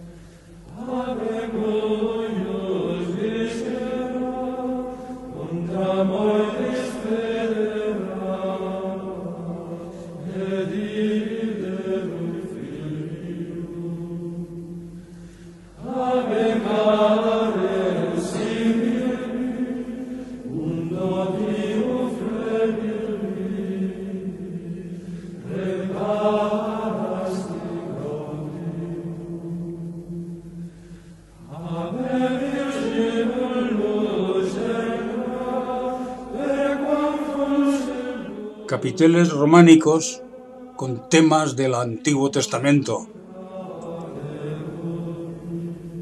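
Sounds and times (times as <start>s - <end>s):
slow sung chant: 0.0s - 46.0s.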